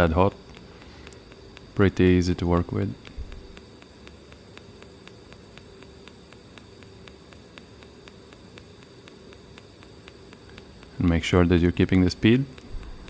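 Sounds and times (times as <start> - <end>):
sharp ticks of welding arc: 0.0 - 13.0
welding arc hissing and humming: 0.0 - 13.0.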